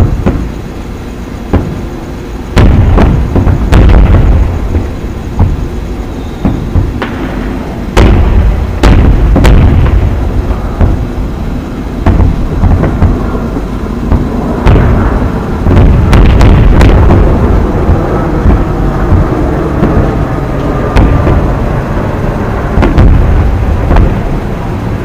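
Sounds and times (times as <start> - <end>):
constant low rumble: 0.0 - 25.0
fireworks booms and cracks: 0.0 - 25.0.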